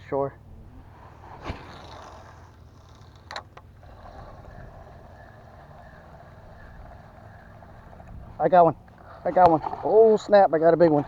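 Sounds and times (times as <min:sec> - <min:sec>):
faint outdoor noise on water: 0:00.0 - 0:11.0.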